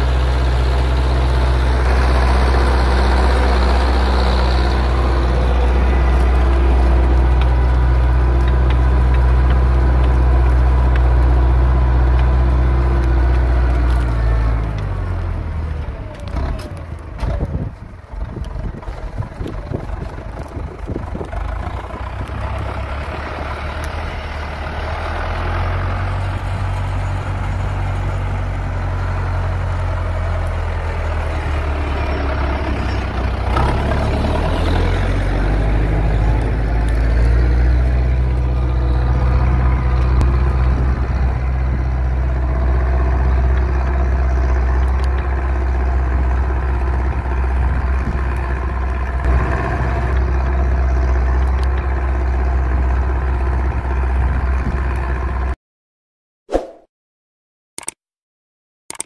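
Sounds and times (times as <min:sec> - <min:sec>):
tractor diesel engine under load: 0:00.0 - 0:55.6.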